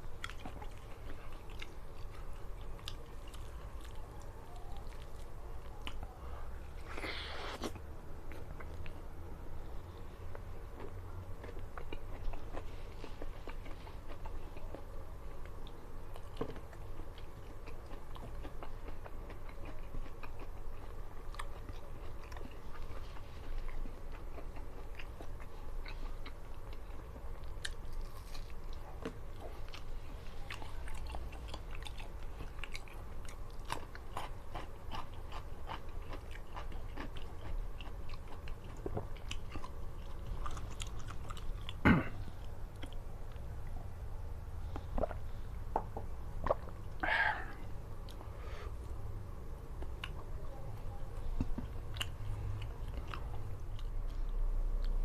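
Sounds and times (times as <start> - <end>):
person chewing crunchy food: 0.0 - 6.1, 6.8 - 43.8, 44.6 - 48.6, 51.2 - 55.0.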